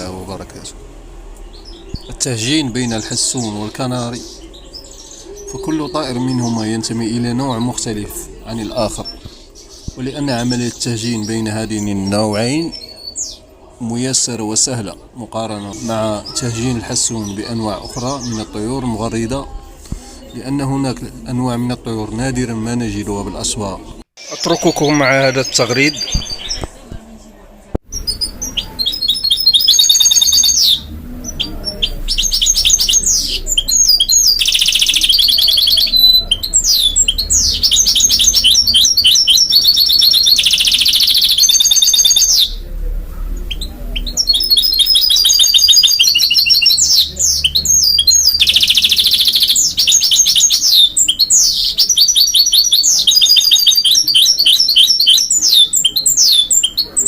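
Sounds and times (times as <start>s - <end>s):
bird singing trills: 0.0s - 14.7s, 15.4s - 19.6s, 24.2s - 26.7s, 27.9s - 57.0s.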